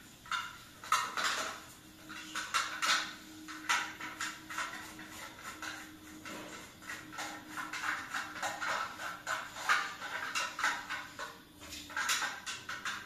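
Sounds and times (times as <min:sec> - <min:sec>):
scrubbing bathtub by hand: 0:00.0 - 0:13.0.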